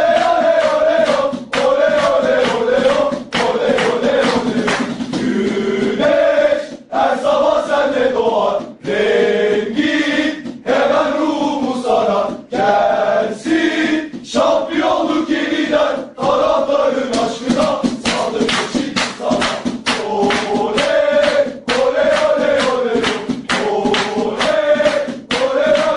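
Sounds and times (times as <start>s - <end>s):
football crowd chanting: 0.0s - 25.9s.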